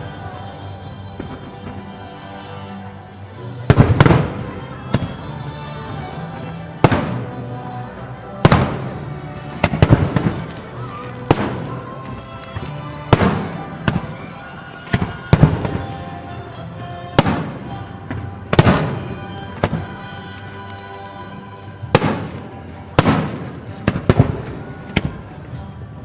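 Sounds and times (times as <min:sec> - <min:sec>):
music playing: 0:00.0 - 0:26.0.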